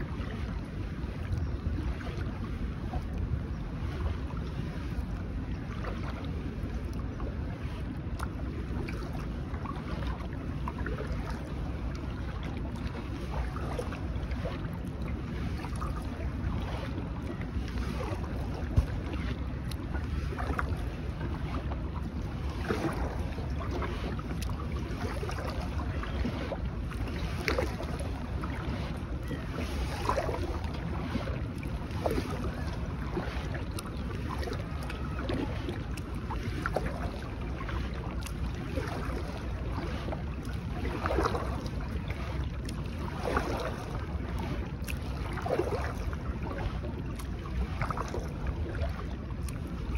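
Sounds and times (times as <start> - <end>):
water splashes and drips: 0.0 - 49.9
wind rumbling on microphone: 0.0 - 49.9.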